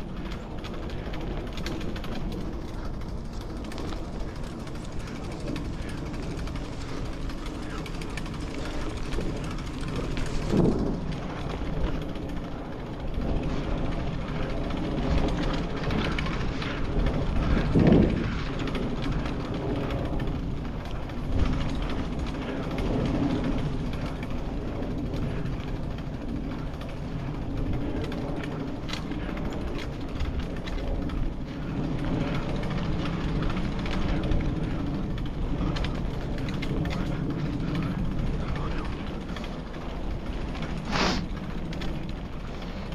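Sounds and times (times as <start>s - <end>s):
bicycle bumps: 0.0s - 42.9s
bicycle rolling along path: 0.0s - 42.9s.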